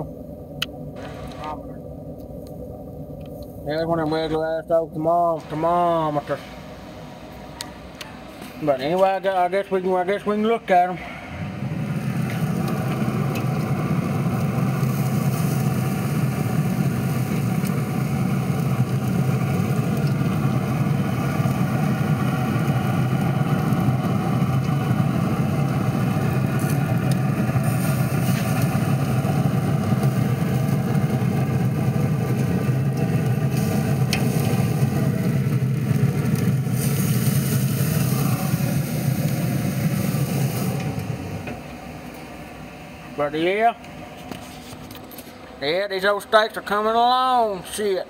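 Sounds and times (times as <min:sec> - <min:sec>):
pellet grill humming: 0:00.0 - 0:48.0.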